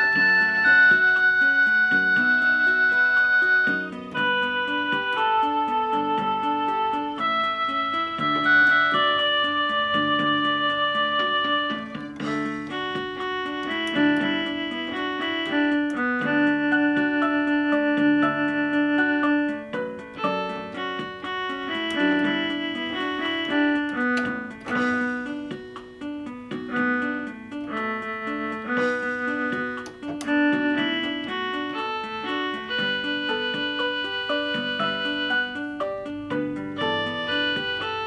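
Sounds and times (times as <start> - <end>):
keyboard accompaniment: 0.0 - 38.0
keyboard piano melody: 0.0 - 38.0.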